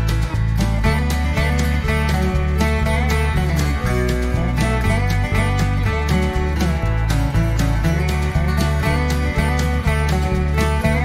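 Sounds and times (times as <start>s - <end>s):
guitar music with steady beat: 0.0s - 11.0s.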